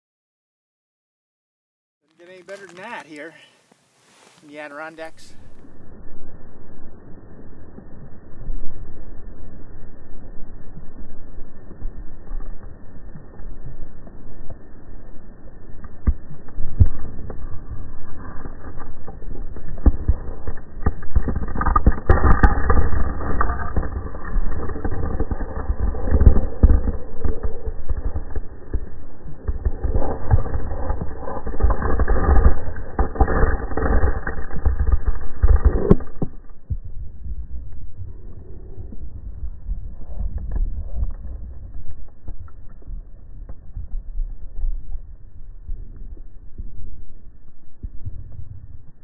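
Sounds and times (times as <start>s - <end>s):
muffled underwater rumbling: 4.8s - 49.0s.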